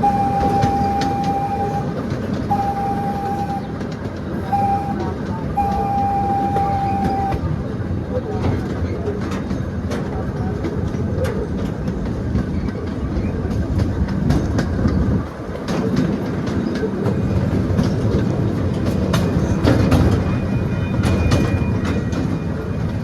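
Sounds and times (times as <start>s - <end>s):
miniature train rolling on track: 0.0s - 23.0s
wheels clicking over rail joints: 0.0s - 23.0s.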